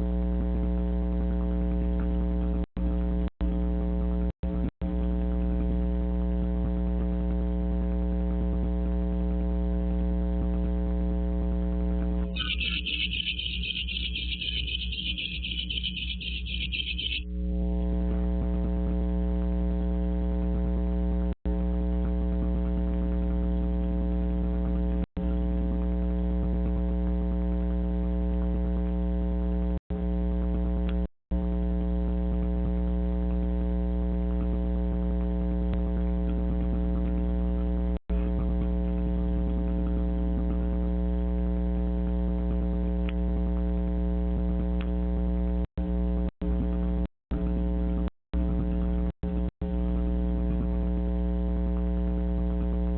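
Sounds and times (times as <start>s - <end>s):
low buzzing hum: 0.0s - 52.9s.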